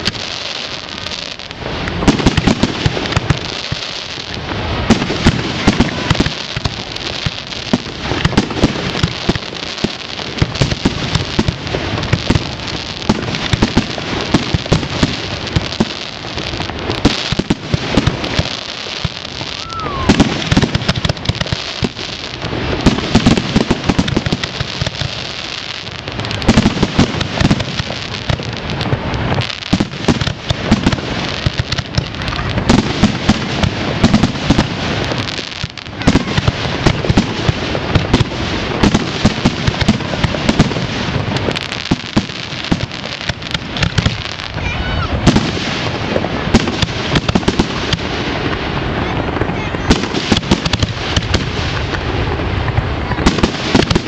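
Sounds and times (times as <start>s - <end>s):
firework shells bursting: 0.0s - 44.6s, 45.2s - 54.0s
firework crackle: 0.0s - 54.0s.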